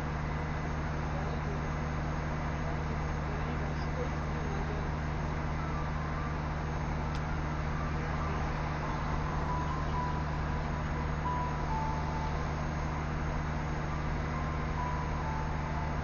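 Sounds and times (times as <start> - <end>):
diesel locomotive engine drone: 0.0 - 16.0.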